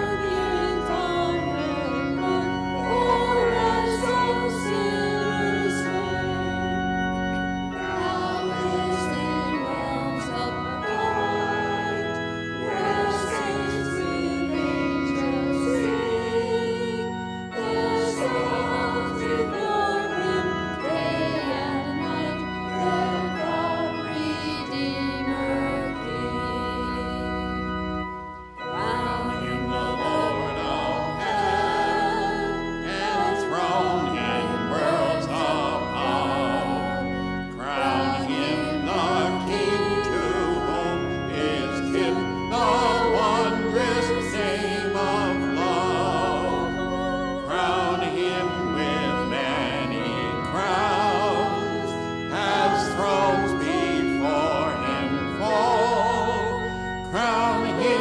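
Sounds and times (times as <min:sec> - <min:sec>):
organ chords: 0:00.0 - 0:58.0
voices singing a hymn: 0:00.0 - 0:58.0.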